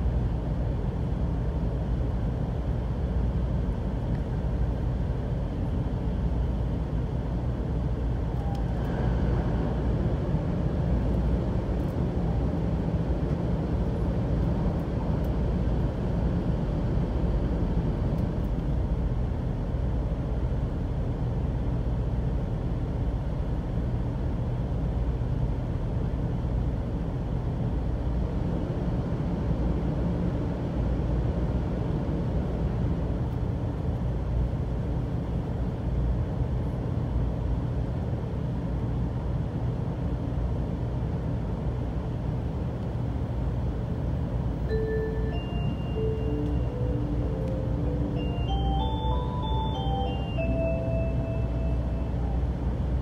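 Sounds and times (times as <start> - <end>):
train rumble from inside: 0.0 - 53.0.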